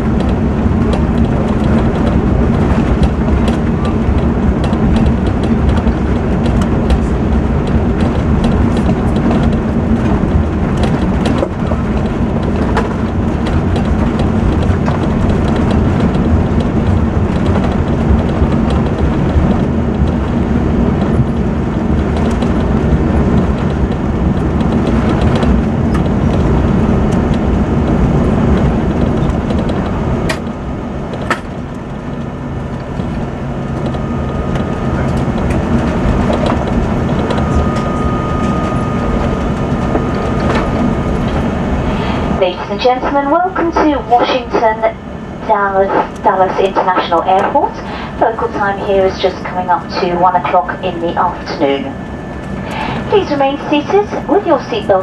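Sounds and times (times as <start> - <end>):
jet engines running: 0.0 - 55.0
undercarriage rumbling on runway: 0.0 - 55.0.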